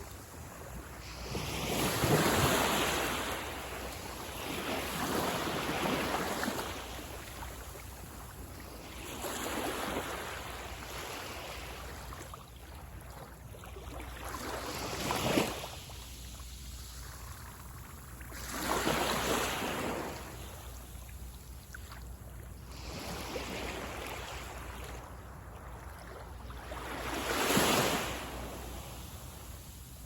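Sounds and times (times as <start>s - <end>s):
small waves breaking on beach: 0.0s - 30.0s.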